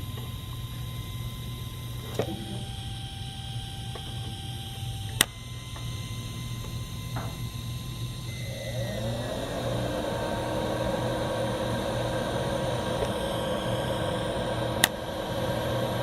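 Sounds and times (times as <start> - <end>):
faint high whine: 0.0 - 16.0
low electrical hum: 0.0 - 16.0.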